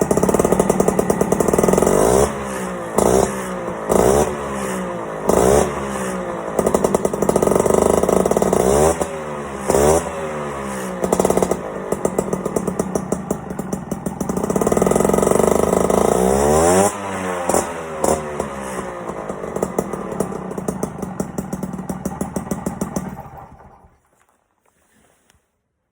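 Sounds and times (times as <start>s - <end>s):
moped engine revving: 0.0s - 24.1s.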